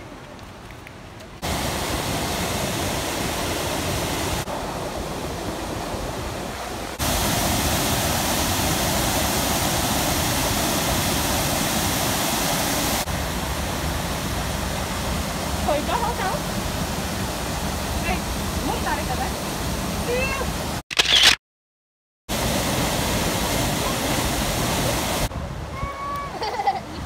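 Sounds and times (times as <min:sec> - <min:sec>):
waterfall rushing: 0:01.4 - 0:20.8, 0:22.3 - 0:26.4.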